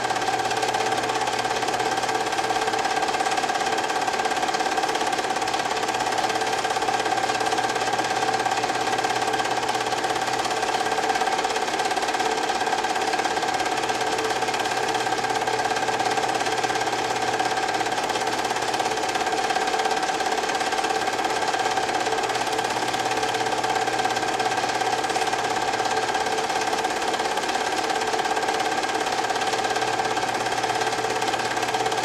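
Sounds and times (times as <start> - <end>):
film projector whirring and rattling: 0.0 - 32.0.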